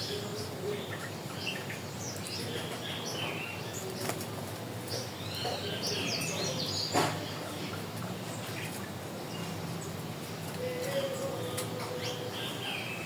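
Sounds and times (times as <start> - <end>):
birds chirping: 0.0 - 13.0
steady natural background hum: 0.0 - 13.0.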